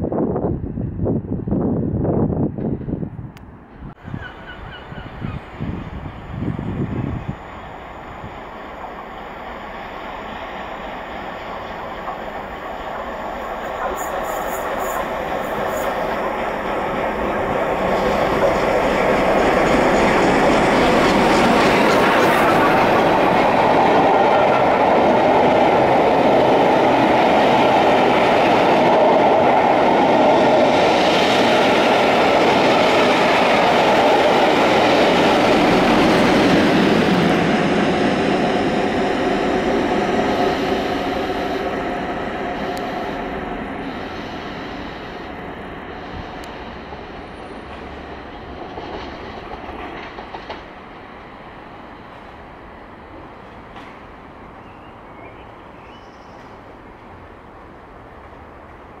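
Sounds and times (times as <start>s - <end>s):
diesel locomotive passing: 0.0s - 59.0s
train wheels on rails: 2.1s - 59.0s.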